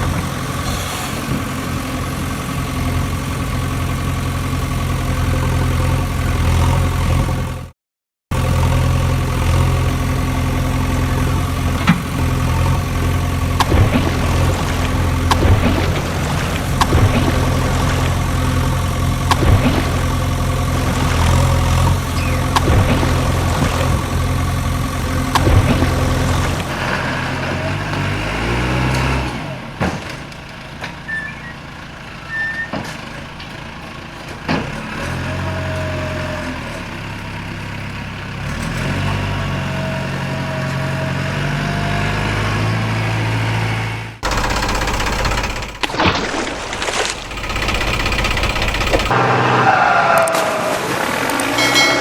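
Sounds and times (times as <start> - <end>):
diesel engine idling: 0.0 - 7.7, 8.3 - 52.0.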